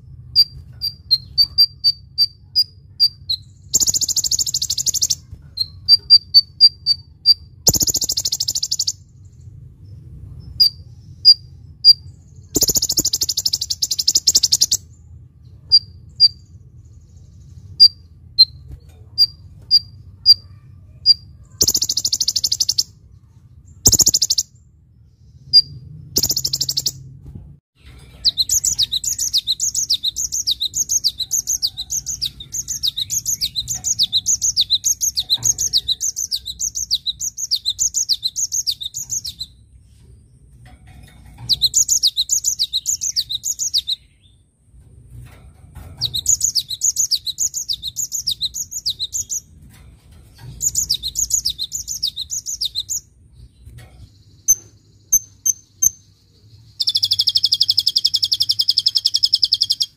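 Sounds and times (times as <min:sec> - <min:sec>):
sunbird buzzy trills: 0:00.0 - 0:27.0, 0:27.8 - 0:44.5, 0:45.2 - 0:59.9.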